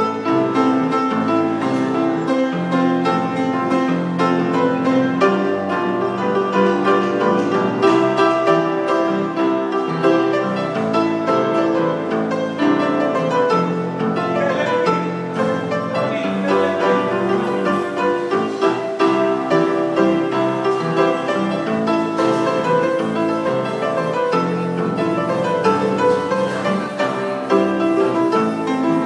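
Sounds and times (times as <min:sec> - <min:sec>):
solo grand piano: 0:00.0 - 0:29.0.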